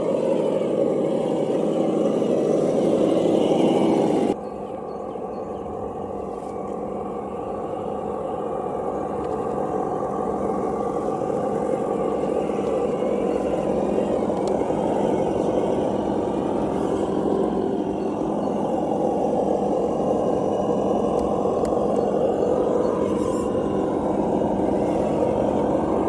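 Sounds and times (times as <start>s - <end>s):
simulated truck engine sound: 0.0s - 26.0s.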